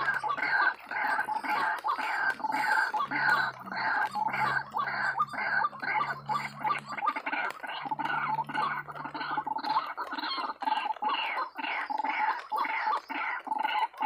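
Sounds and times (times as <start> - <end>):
waterhen croaking calls: 0.0 - 14.0.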